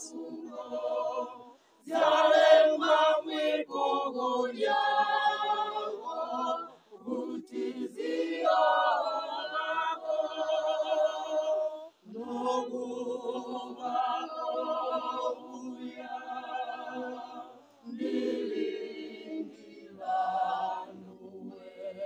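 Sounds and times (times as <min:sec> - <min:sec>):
choir singing a hymn: 0:00.0 - 0:22.0.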